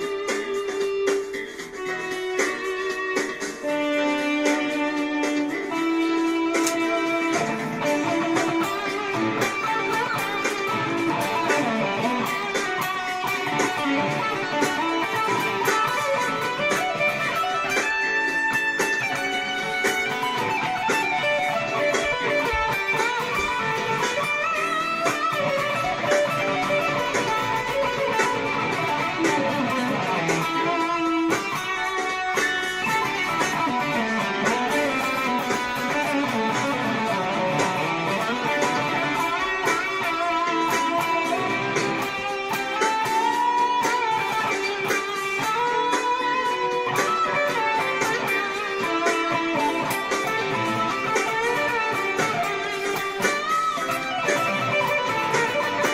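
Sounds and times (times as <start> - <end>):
distorted electric guitar: 0.0 - 55.9.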